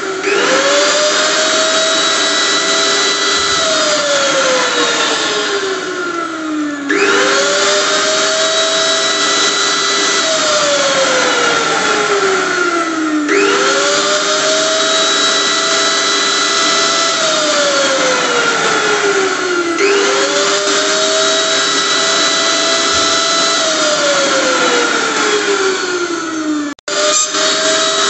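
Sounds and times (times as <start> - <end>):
electric blender motor whining: 0.0 - 28.0.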